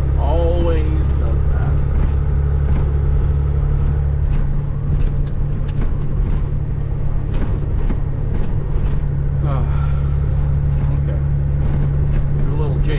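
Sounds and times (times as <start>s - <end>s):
road noise: 0.0s - 12.9s
truck diesel engine drone: 0.0s - 12.9s.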